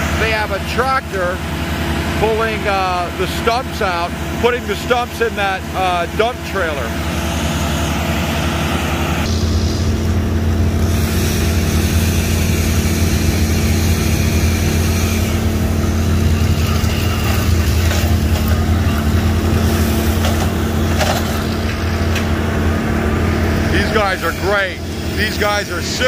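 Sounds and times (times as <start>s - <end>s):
heavy machinery engine hum: 0.0s - 26.0s.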